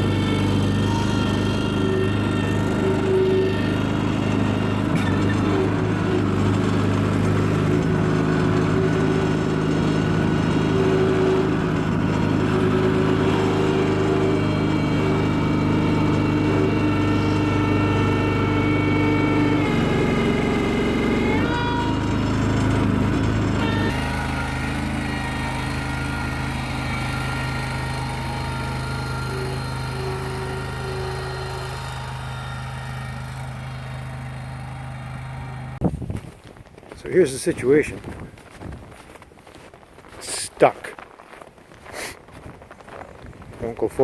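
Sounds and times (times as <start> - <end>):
tractor engine running: 0.0 - 41.8, 42.4 - 44.0.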